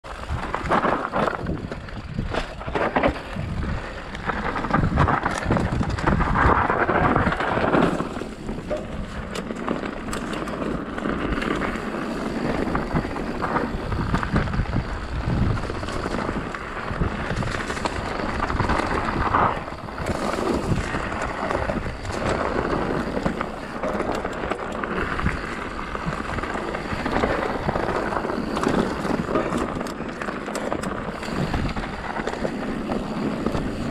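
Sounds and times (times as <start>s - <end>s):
bike rattling over rocks: 0.0s - 33.9s
bike tyre noise on dirt: 0.0s - 33.9s.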